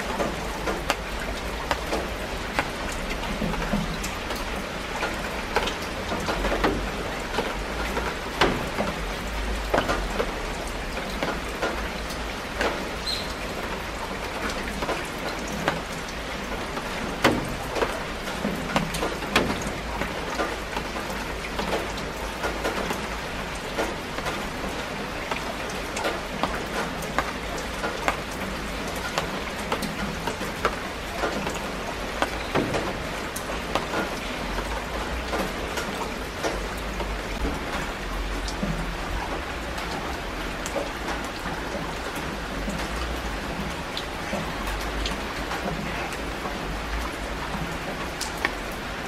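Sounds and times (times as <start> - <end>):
raindrops ticking close by: 0.0 - 49.0
steady rainfall: 0.0 - 49.0.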